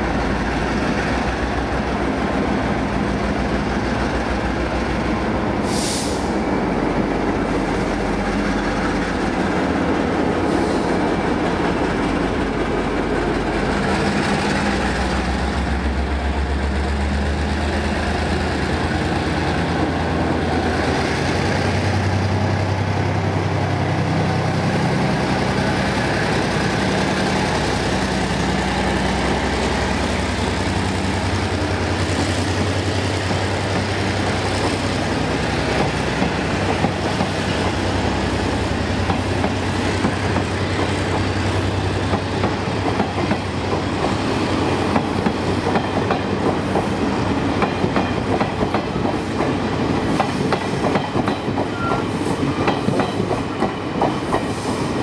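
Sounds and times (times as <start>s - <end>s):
train wheels clickety-clack: 0.0s - 23.1s, 25.0s - 55.0s
locomotive engine: 0.0s - 50.2s.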